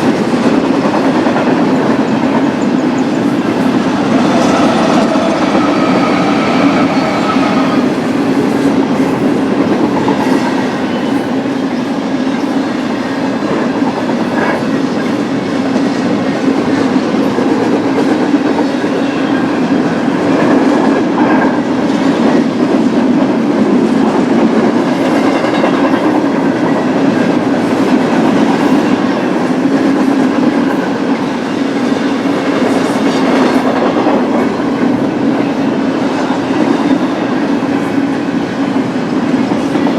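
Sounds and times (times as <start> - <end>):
freight train wheels clacking: 0.0 - 39.9
train rumble: 0.0 - 39.9.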